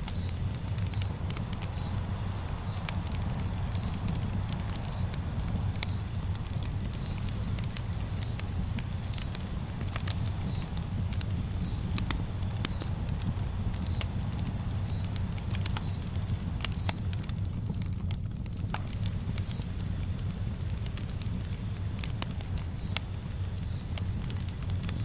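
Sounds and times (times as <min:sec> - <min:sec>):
low rumble: 0:00.0 - 0:23.0
wood fire crackling and popping: 0:00.0 - 0:25.0.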